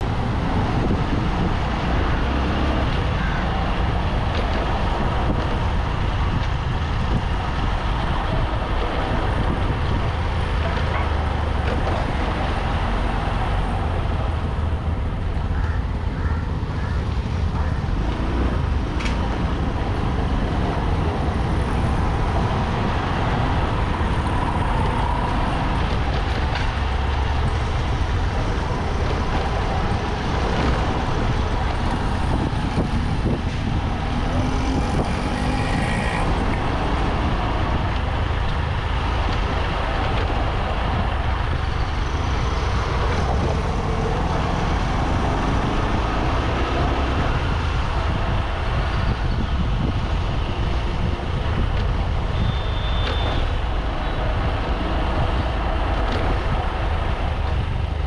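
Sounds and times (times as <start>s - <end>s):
road traffic: 0.0s - 58.0s
wind on microphone: 0.0s - 58.0s.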